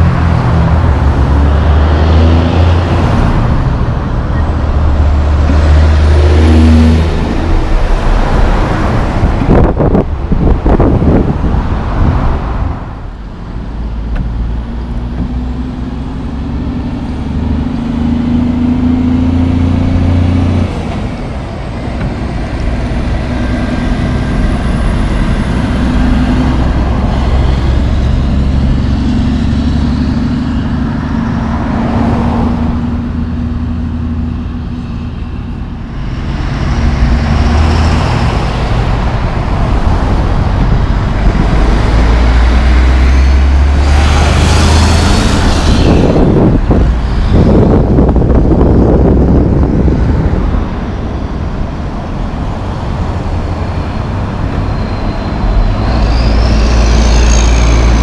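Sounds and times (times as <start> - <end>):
diesel truck engines droning: 0.0 - 58.0
road traffic noise: 0.0 - 58.0.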